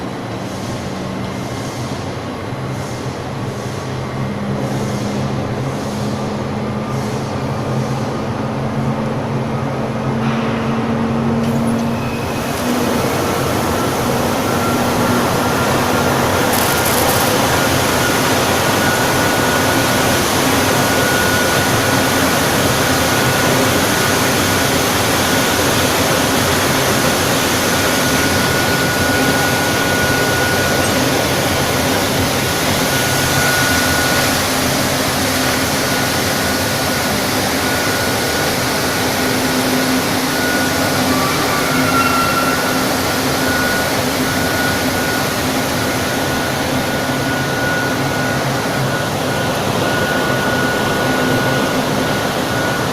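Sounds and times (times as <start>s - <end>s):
furnace blowers rushing air: 0.0s - 52.9s
faint high whine: 9.6s - 52.9s.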